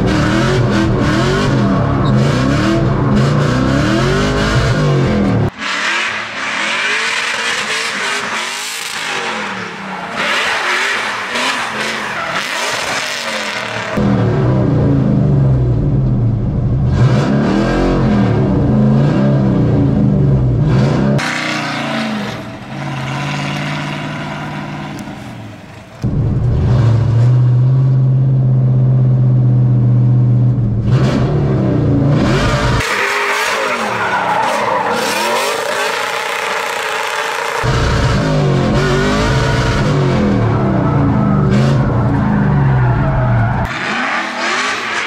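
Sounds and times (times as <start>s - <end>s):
car engine revving at high revs: 0.0s - 25.0s, 30.5s - 42.4s, 43.0s - 45.0s.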